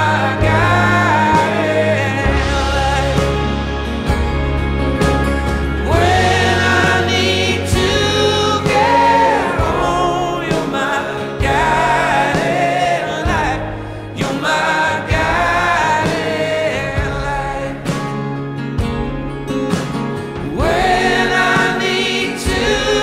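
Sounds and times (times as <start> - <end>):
song with held sung notes: 0.0 - 18.4, 20.4 - 23.0
steady bass notes: 0.0 - 23.0.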